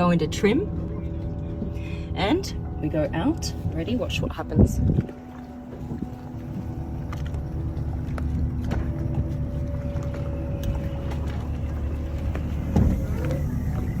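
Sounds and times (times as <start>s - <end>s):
faint motor hum: 0.0s - 14.0s
rush of water and wind: 0.0s - 14.0s.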